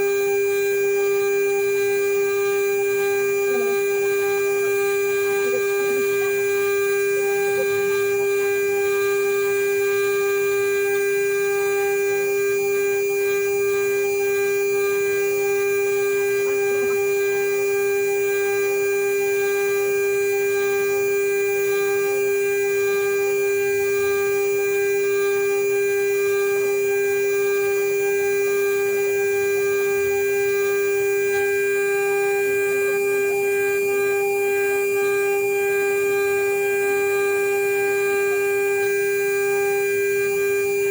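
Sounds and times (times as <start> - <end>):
router spindle high whine: 0.0 - 40.9.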